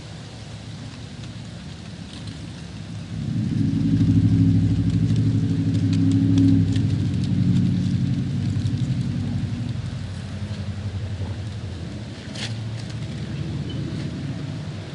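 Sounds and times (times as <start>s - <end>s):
train engine drone: 0.0s - 14.9s
wind rustling through leaves: 0.0s - 14.9s.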